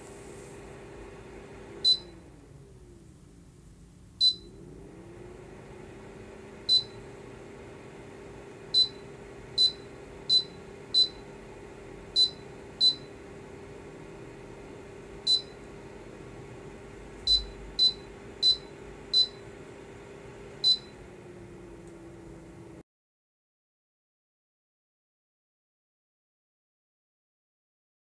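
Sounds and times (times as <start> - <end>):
fan hum: 0.0 - 22.8.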